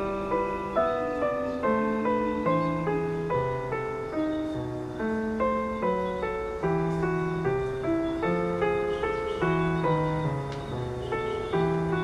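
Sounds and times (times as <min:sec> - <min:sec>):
calm piano music: 0:00.0 - 0:12.0.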